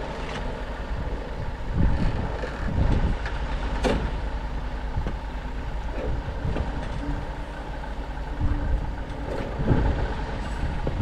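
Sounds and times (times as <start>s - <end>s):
tube rolling machine rumbling: 0.0s - 11.0s.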